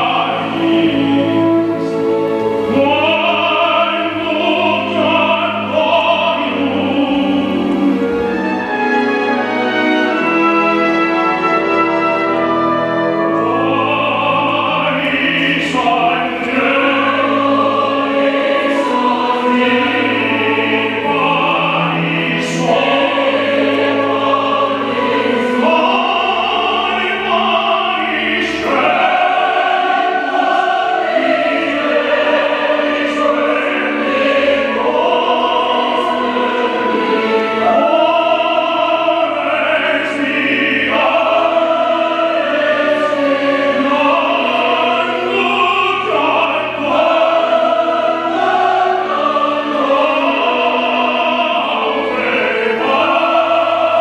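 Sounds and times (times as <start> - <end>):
operatic tenor singing: 0.0 - 54.0
symphony orchestra: 0.0 - 54.0.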